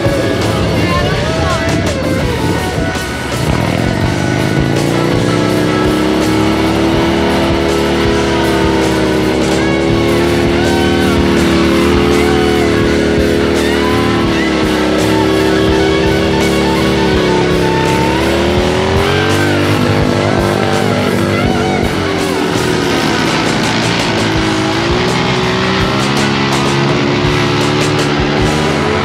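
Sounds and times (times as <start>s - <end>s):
guitar background music: 0.0s - 29.0s.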